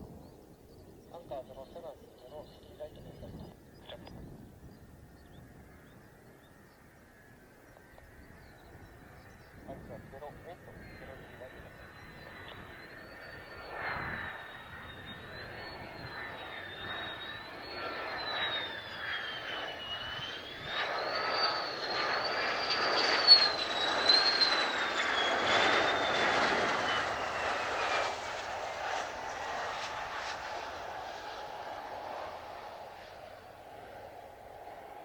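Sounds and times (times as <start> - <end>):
jet engine whine and roar: 0.0 - 35.0.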